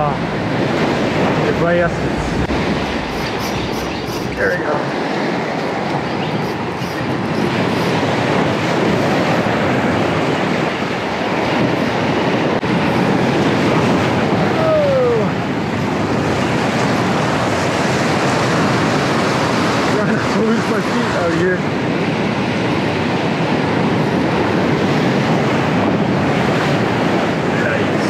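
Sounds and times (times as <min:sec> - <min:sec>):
surf breaking over rocks: 0:00.0 - 0:28.0.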